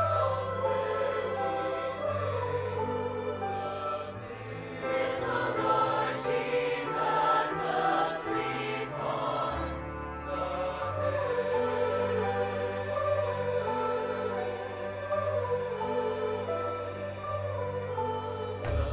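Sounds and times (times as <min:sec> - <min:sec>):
choir singing: 0:00.0 - 0:18.9
instrumental accompaniment: 0:00.0 - 0:18.9.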